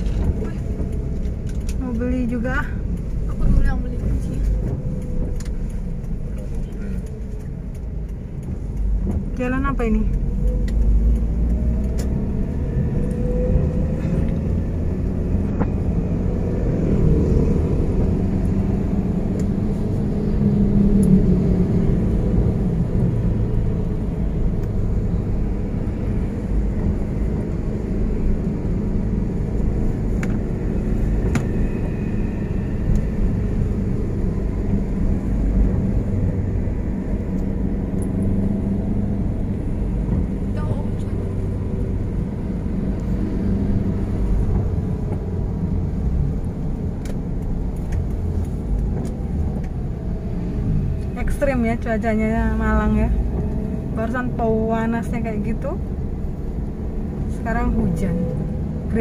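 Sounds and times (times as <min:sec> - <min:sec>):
car road noise from inside: 0:00.0 - 0:59.0.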